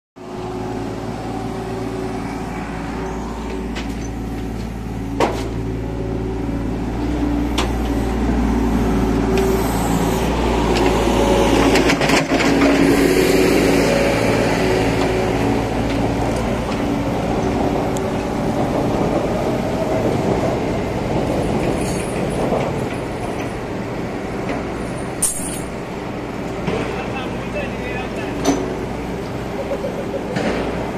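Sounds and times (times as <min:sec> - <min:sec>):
engine humming: 0:00.2 - 0:30.9.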